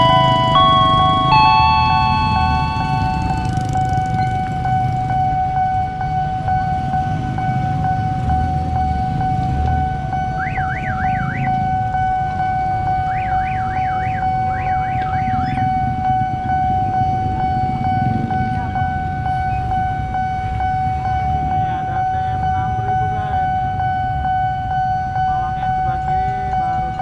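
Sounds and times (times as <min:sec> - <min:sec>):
level crossing warning tone: 0:00.0 - 0:27.0
motorbike and minibus engines: 0:00.0 - 0:27.0
warbling siren: 0:00.0 - 0:27.0.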